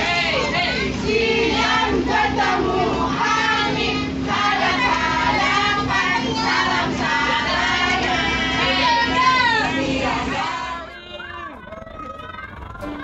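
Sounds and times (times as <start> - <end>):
bus engine hum: 0.0 - 13.0
children singing together: 0.0 - 13.0.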